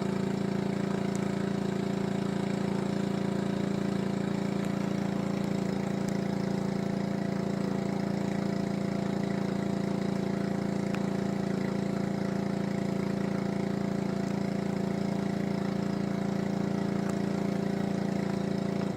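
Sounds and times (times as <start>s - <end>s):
pressure washer engine running: 0.0s - 18.9s.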